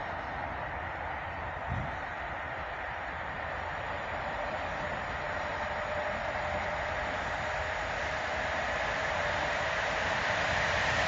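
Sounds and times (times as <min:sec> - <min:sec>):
distant train rumble and hiss: 0:00.0 - 0:11.0.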